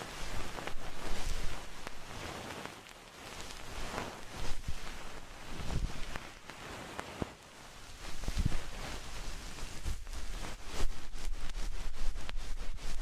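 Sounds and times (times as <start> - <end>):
even crackle: 0.0 - 13.0.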